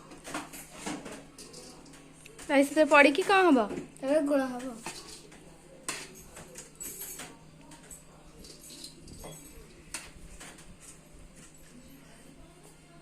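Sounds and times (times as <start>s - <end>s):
metal utensils clinking on pot: 0.2s - 3.5s, 4.6s - 11.8s.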